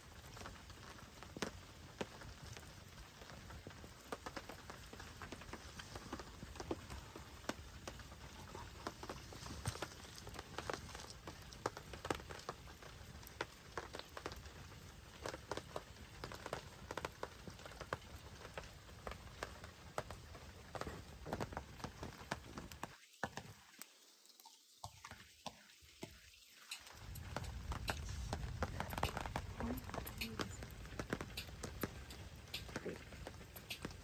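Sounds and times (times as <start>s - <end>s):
rain hissing: 0.0s - 24.5s, 25.3s - 34.0s
wood fire crackling: 0.0s - 34.0s.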